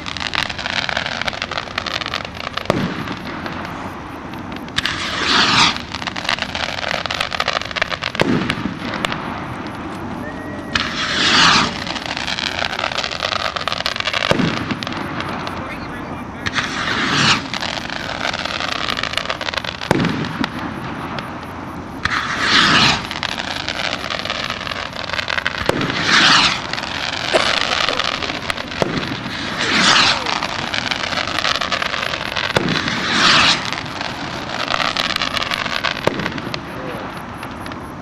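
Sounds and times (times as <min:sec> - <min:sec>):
rockets bursting with sharp bangs: 0:00.0 - 0:38.0
rockets launching with whoosh: 0:00.0 - 0:38.0.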